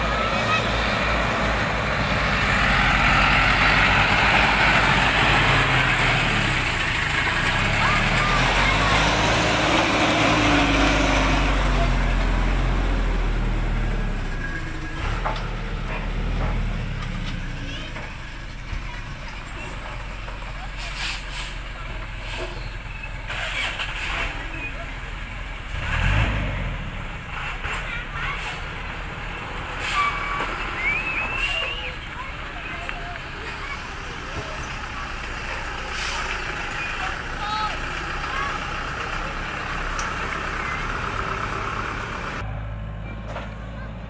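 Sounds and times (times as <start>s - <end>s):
diesel truck engine passing: 0.0s - 44.0s.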